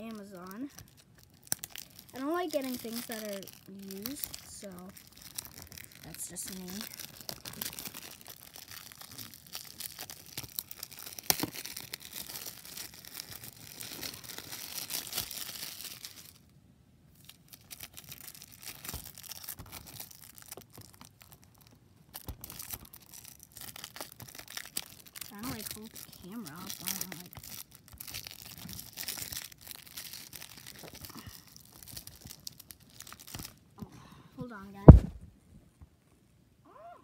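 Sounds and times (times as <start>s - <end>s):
plastic shrink wrap crinkling: 0.0s - 16.5s, 17.1s - 33.8s.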